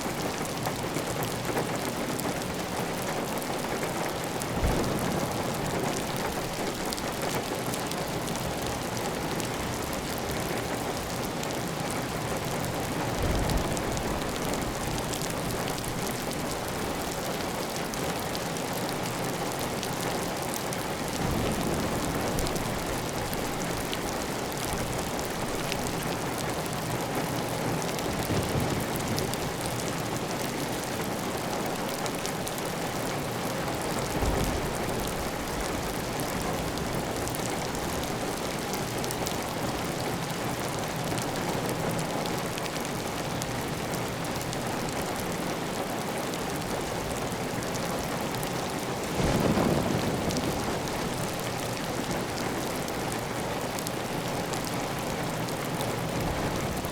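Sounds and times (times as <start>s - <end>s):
heavy rain on a tile roof: 0.0s - 56.9s.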